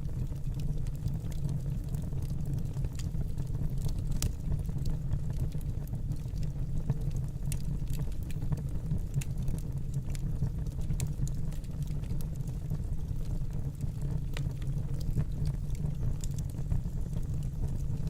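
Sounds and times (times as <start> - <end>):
fire crackling and popping: 0.0 - 18.0
fire rumbling in fireplace: 0.0 - 18.0.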